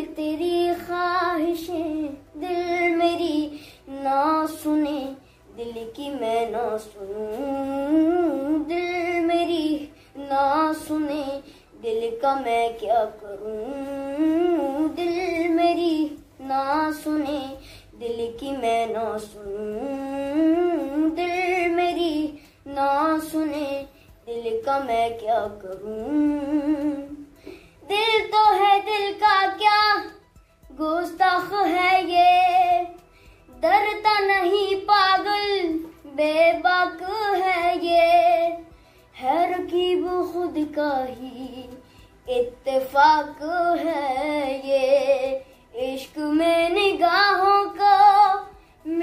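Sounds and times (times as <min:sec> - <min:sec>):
boy singing unaccompanied: 0:00.0 - 0:49.0.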